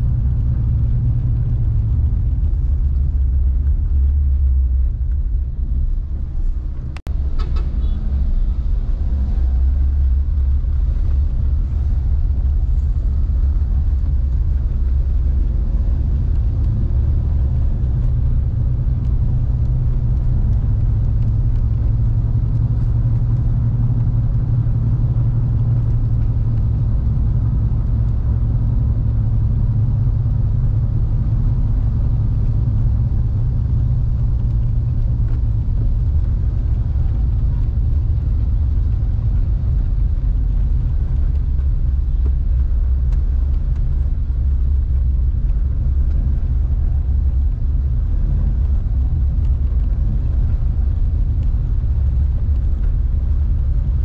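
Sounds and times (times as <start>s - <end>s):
car driving on wet road: 0.0s - 54.0s.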